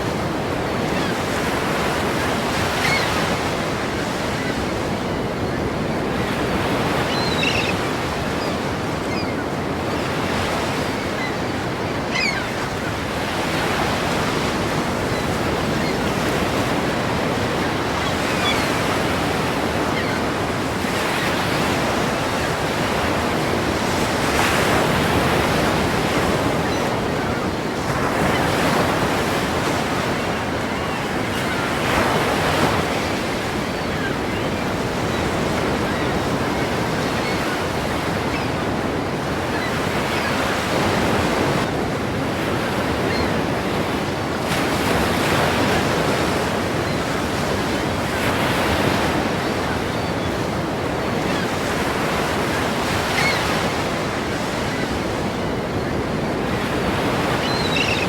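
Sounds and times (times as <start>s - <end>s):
ocean waves crashing: 0.0s - 58.0s.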